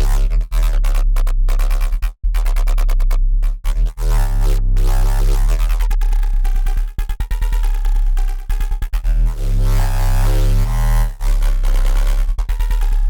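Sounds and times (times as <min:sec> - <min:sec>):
electronic synth bass riff: 0:00.0 - 0:13.0.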